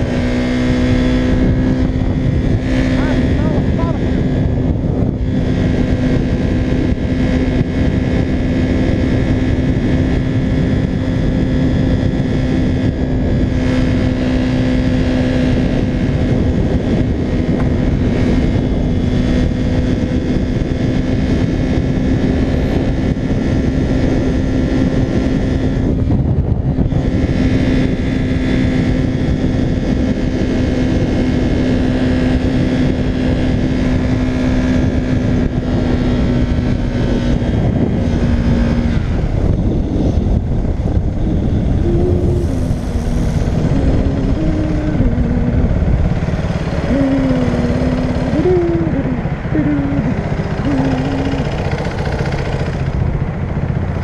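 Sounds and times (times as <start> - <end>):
motorcycle engine cruising: 0.0 - 54.0
wind rushing on helmet: 0.0 - 54.0.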